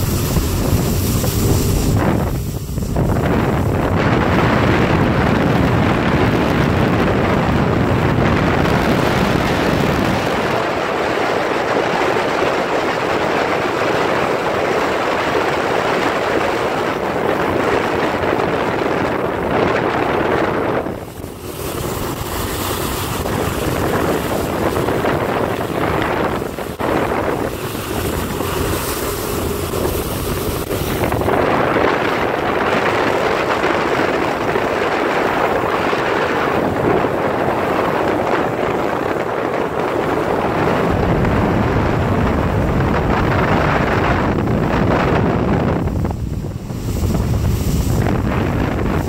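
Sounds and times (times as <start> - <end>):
boat wake churning: 0.0 - 49.0
motorboat engine drone: 0.0 - 49.0
wind on microphone: 0.0 - 49.0.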